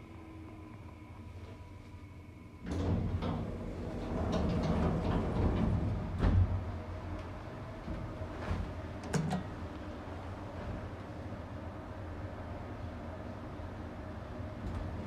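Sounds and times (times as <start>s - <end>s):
faint steady hum: 0.0s - 15.0s
elevator doors sliding open: 2.6s - 15.0s.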